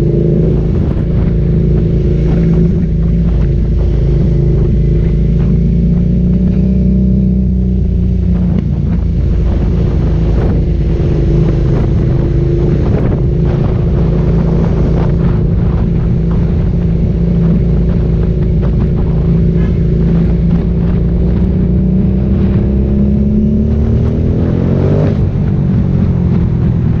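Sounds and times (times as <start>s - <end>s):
motorcycle engine revving: 0.0s - 27.0s
wind rumble on microphone: 0.0s - 27.0s.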